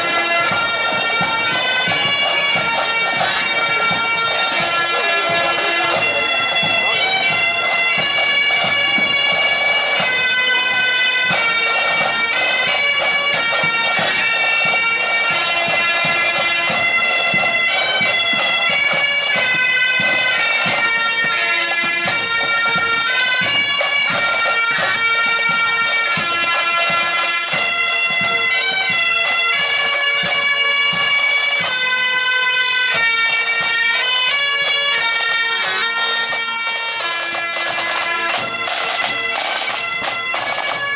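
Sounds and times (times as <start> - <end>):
snare and bass drums beating: 0.0 - 36.2, 37.2 - 40.9
bagpipes playing a tune: 0.0 - 40.9.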